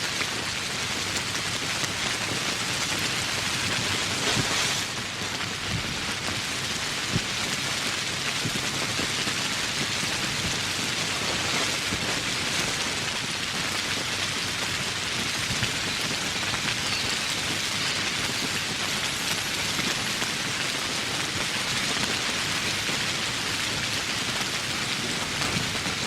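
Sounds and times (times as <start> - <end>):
heavy rain on foliage: 0.0 - 26.0.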